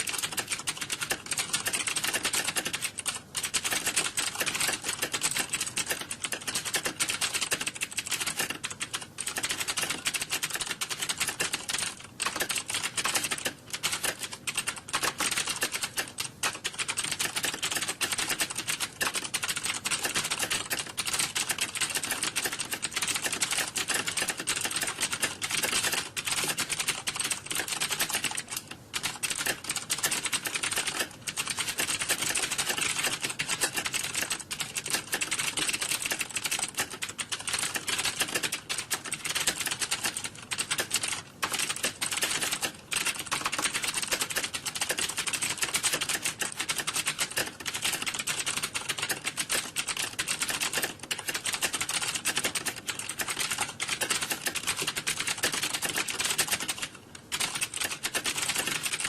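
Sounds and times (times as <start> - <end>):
keyboards typing clatter: 0.0 - 59.0.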